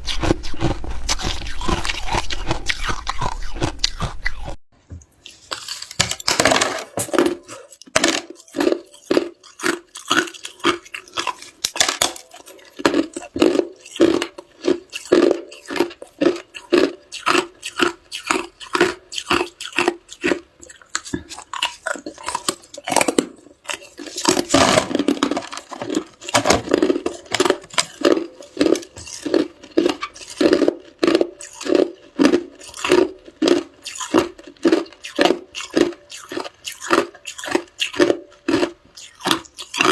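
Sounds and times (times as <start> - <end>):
ice being chewed: 0.0 - 4.6, 5.2 - 6.6, 7.2 - 39.9.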